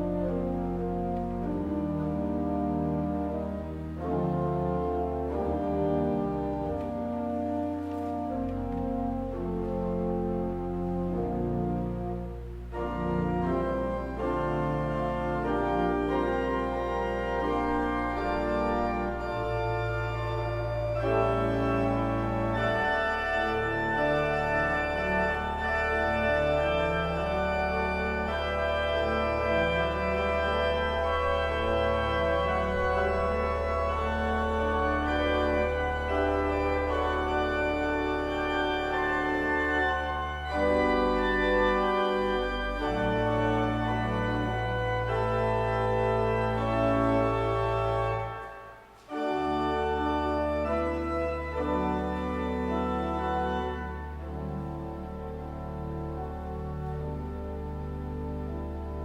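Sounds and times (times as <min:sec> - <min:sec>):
church organ playing chords: 0:00.0 - 0:59.0.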